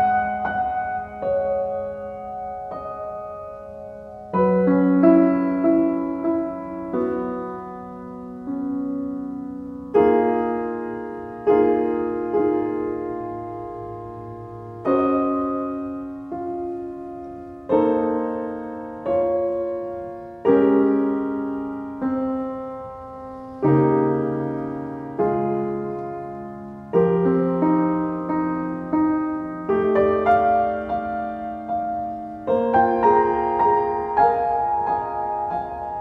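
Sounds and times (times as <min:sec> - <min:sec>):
slow piano chords: 0:00.0 - 0:36.0.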